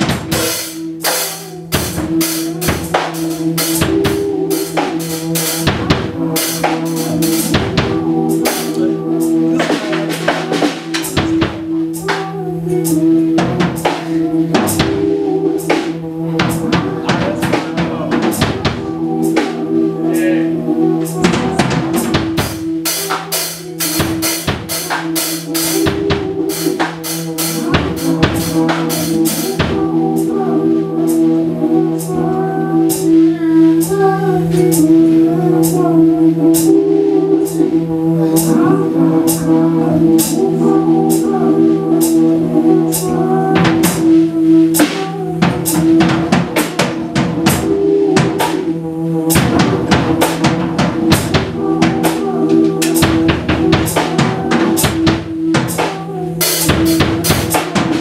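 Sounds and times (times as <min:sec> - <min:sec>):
drum kit beat: 0:00.0 - 0:58.0
looped held low notes: 0:00.0 - 0:58.0.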